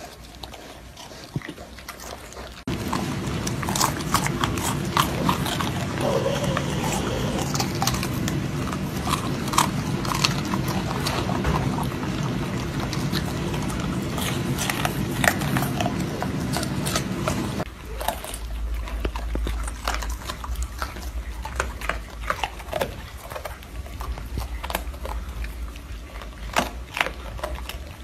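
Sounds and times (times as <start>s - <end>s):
puppies crunching and chewing: 0.0s - 28.0s
steady low hum: 0.0s - 28.0s.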